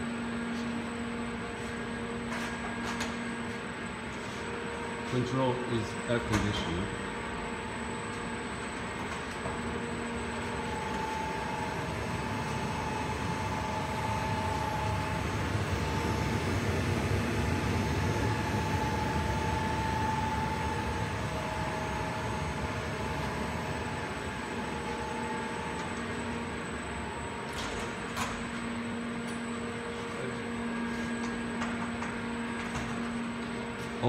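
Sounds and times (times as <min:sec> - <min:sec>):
air conditioning unit hum: 0:00.0 - 0:34.0.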